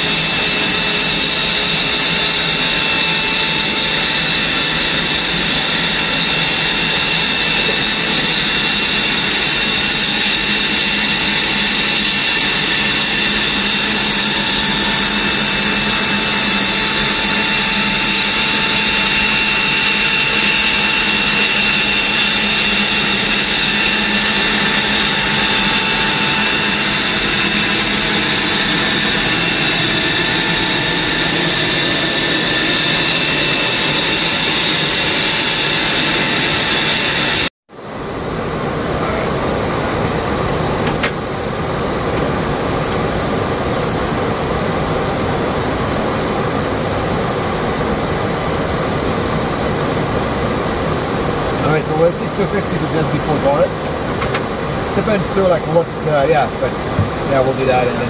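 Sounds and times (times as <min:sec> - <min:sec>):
jet turbine running: 0:00.0 - 0:58.0.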